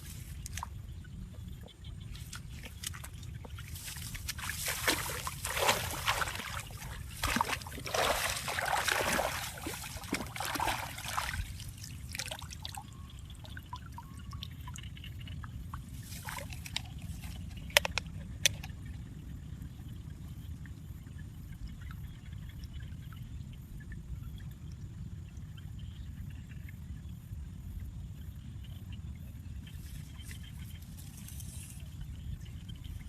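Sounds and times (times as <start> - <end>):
water sloshing and trickling: 0.0 - 26.0, 29.5 - 33.0
steady low rumble: 0.0 - 33.0.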